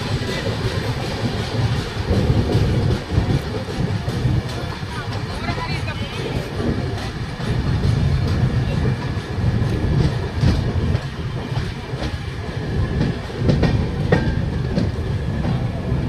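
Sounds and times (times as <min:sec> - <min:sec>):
train coaches rumbling: 0:00.0 - 0:16.0.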